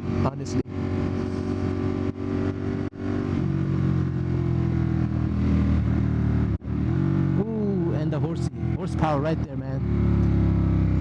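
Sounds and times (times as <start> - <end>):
motorcycle engine under throttle: 0.0 - 11.0.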